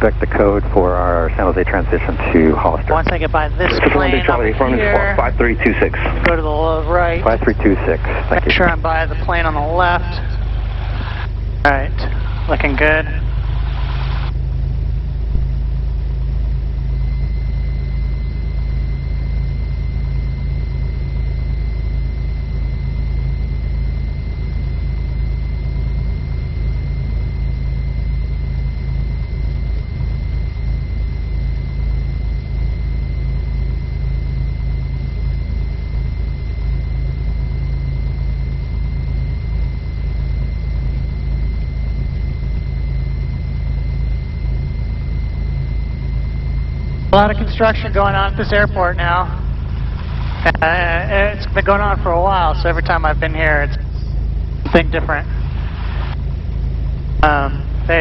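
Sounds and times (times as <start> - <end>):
aircraft piston engine droning: 0.0 - 58.0
thin high whine: 0.0 - 58.0.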